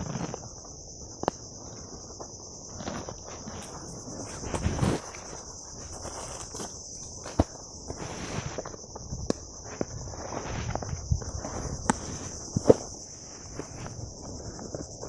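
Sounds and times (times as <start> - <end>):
high-pitched insect chorus: 0.0 - 15.0
rustling: 1.6 - 15.0
footsteps: 2.2 - 15.0.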